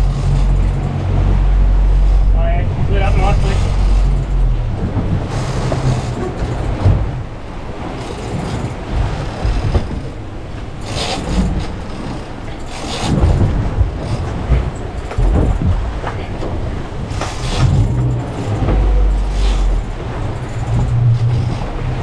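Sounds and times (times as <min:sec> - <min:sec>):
boat engine running: 0:00.0 - 0:22.0
water rushing: 0:00.0 - 0:22.0
wind rushing: 0:00.0 - 0:22.0.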